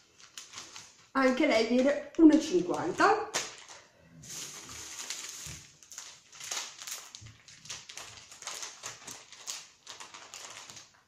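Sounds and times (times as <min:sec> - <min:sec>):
plastic packets crinkling: 0:00.0 - 0:11.0.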